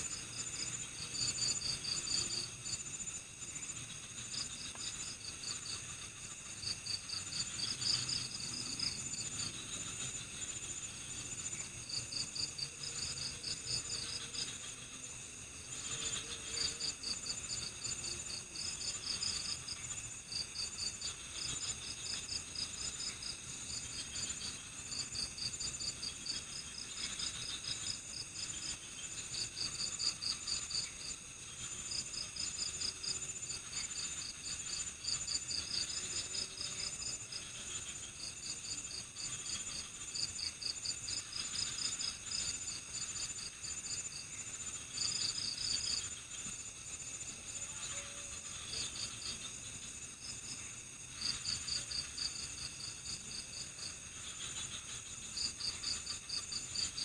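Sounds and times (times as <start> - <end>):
crickets chirping: 0.0 - 57.0
high-pitched insect drone: 0.0 - 57.0.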